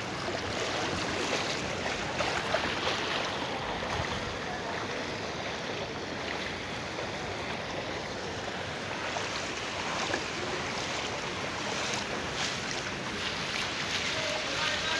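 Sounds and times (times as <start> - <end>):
people wading through floodwater: 0.0 - 14.9.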